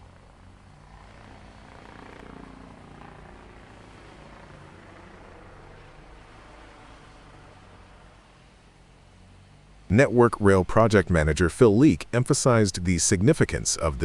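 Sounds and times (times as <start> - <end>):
faint low mechanical rumble: 0.0 - 14.0.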